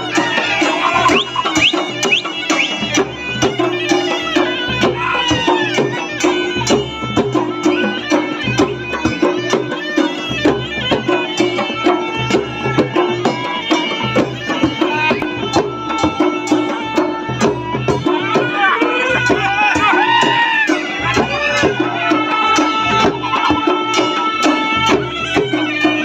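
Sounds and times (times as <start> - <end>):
percussion beating fast rhythm: 0.0 - 26.0.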